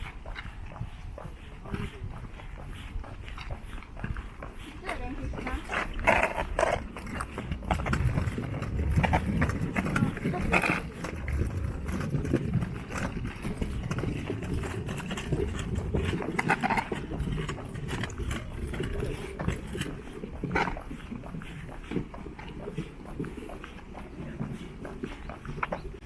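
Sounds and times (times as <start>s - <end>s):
footsteps on path: 0.0s - 26.0s
outdoor background noise: 0.0s - 26.0s.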